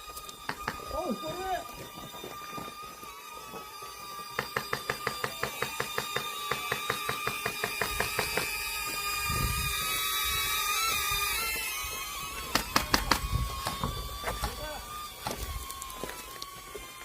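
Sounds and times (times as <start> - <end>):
steady whine: 0.0 - 17.0.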